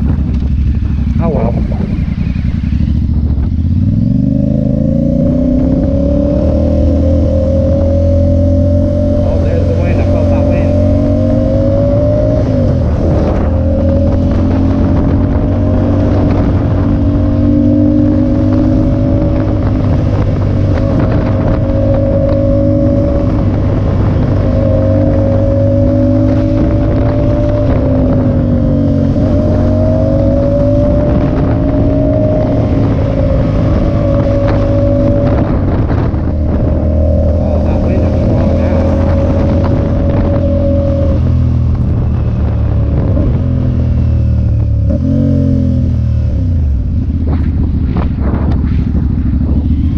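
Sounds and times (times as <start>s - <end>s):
motorcycle engine cruising: 0.0s - 49.9s
wind rushing over microphone: 0.0s - 49.9s.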